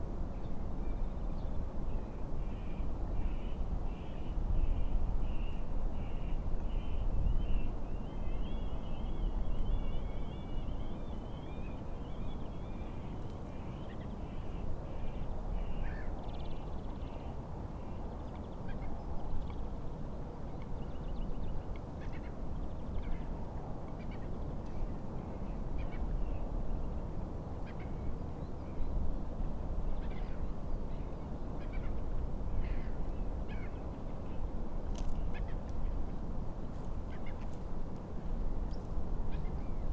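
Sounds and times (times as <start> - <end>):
wind rumble on microphone: 0.0 - 12.6, 17.6 - 39.9.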